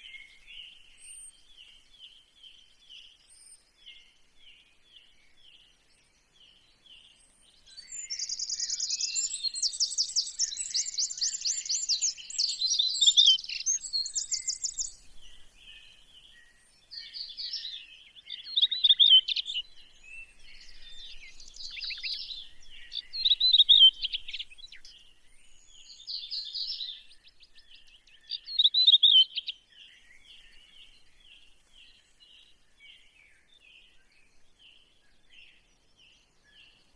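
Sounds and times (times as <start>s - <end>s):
birds singing trills: 0.0s - 36.9s
faint bird chirping: 0.0s - 36.9s.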